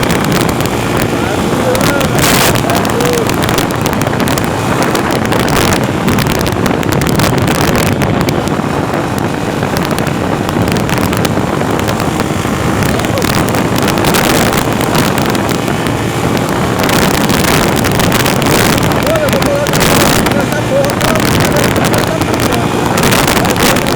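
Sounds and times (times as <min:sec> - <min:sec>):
moving vehicle running noise: 0:00.0 - 0:23.9
wind buffeting microphone: 0:00.0 - 0:23.9.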